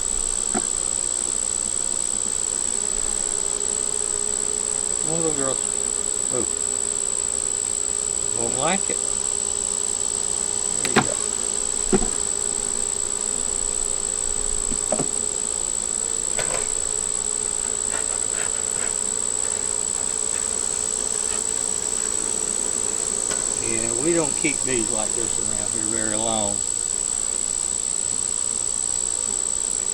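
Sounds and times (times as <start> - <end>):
honey bees buzzing: 0.0 - 29.9.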